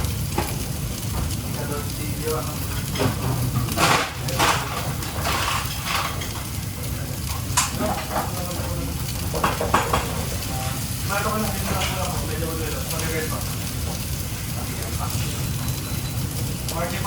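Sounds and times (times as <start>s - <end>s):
food frying and sizzling: 0.0s - 17.0s.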